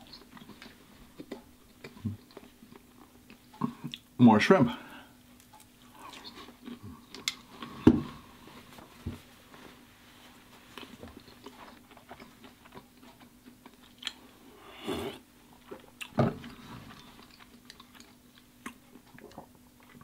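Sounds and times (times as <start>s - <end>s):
man chewing: 0.0s - 4.1s, 5.4s - 7.9s, 10.4s - 20.0s.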